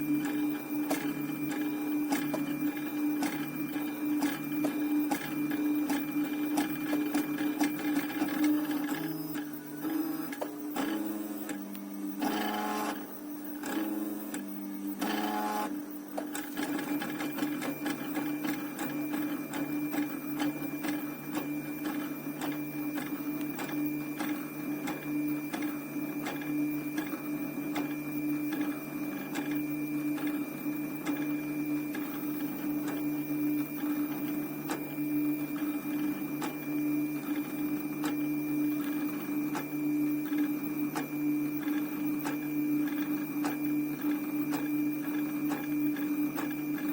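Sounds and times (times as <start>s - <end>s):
stepper motors whining and ticking: 0.0s - 46.9s.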